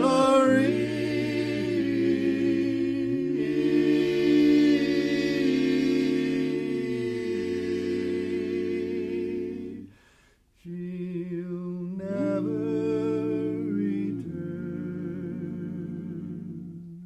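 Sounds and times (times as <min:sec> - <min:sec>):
quartet singing in harmony: 0:00.0 - 0:10.0, 0:10.8 - 0:17.0.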